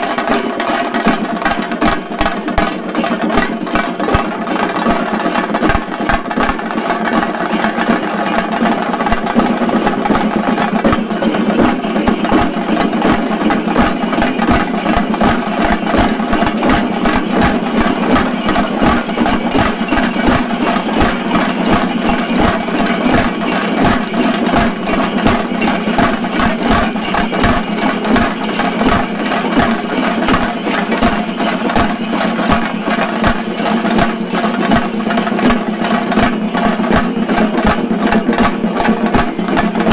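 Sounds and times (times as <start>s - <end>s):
drums beaten with sticks: 0.0s - 39.9s.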